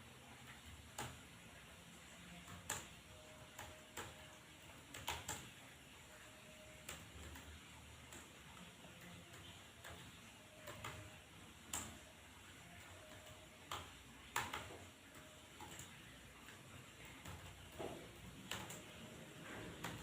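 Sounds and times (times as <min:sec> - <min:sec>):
keyboard keys clicking: 0:02.2 - 0:05.6, 0:06.7 - 0:12.1, 0:12.7 - 0:20.0.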